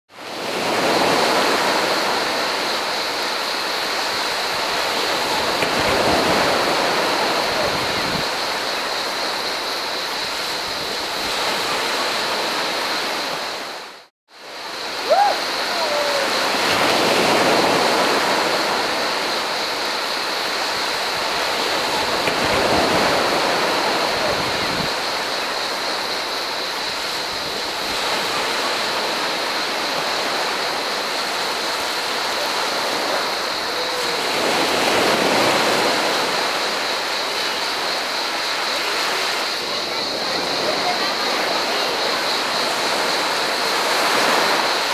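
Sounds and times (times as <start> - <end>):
small waves breaking on beach: 0.1 - 44.9
cicadas buzzing: 0.2 - 44.9.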